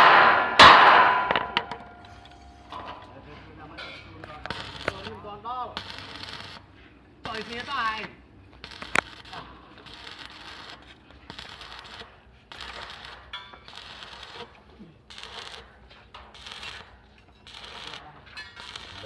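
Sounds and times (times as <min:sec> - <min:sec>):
arc welding crackling and hissing: 0:03.5 - 0:19.0.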